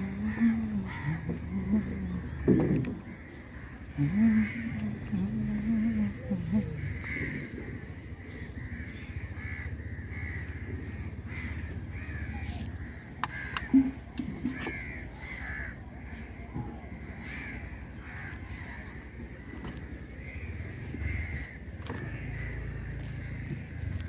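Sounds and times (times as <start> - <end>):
crows cawing: 0.0 - 24.0.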